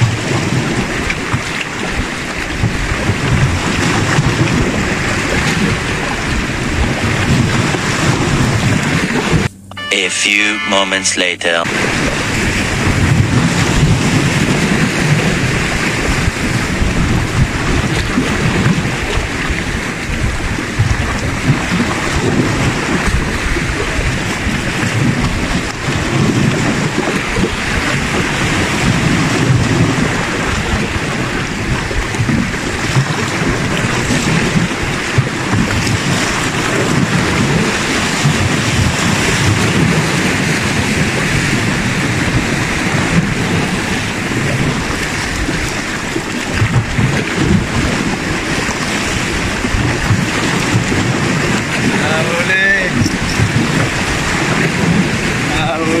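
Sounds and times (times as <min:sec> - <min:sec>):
waves splashing against rocks: 0:00.0 - 0:09.4, 0:12.8 - 0:56.0
wind rumble on microphone: 0:00.0 - 0:09.6, 0:11.7 - 0:56.0.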